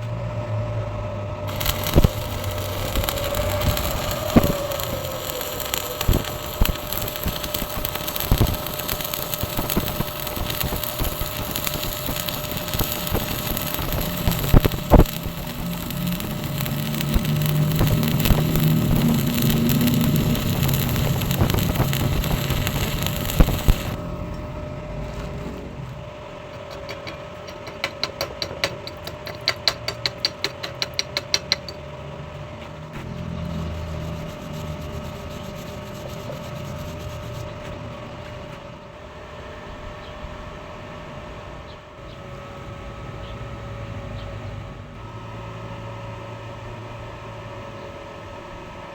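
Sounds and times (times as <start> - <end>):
steady machine hum: 0.0 - 30.3, 31.0 - 48.9.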